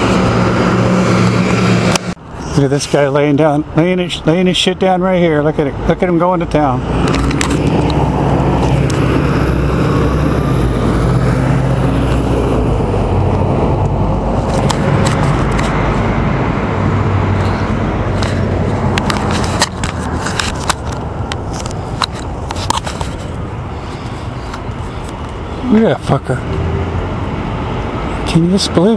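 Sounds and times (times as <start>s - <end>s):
road traffic: 0.0s - 28.9s.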